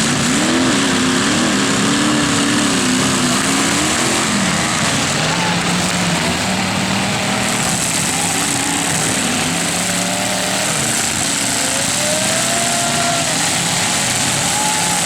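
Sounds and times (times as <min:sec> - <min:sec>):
car engines revving together: 0:00.0 - 0:15.0
climbing engine whine: 0:00.0 - 0:15.0.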